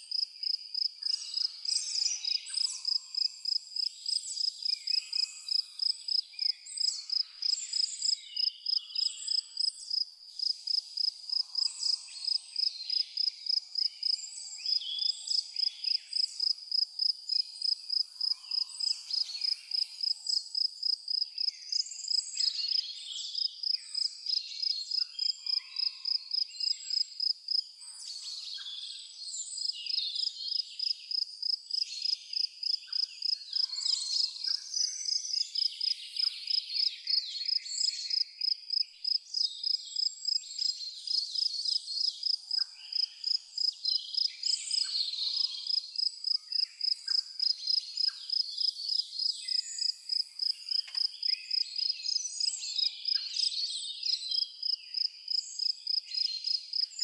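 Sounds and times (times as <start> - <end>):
birds singing and calling: 0.0 - 16.6, 17.4 - 27.2, 27.8 - 57.0
cricket chirping: 0.0 - 28.6, 29.6 - 57.0.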